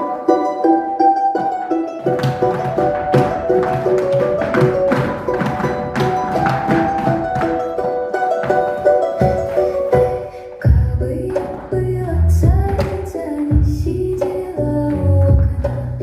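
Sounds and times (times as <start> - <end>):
plucked folk melody: 0.0 - 16.0
steady percussive beat: 0.0 - 16.0.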